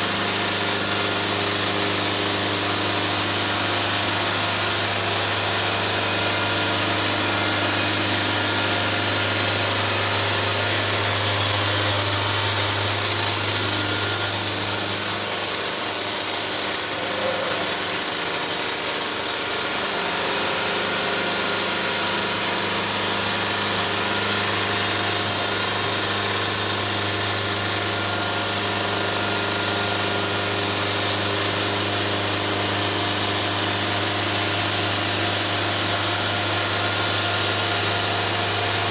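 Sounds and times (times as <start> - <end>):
blade cutting through log: 0.0 - 38.9
sawmill engine hum: 0.0 - 38.9.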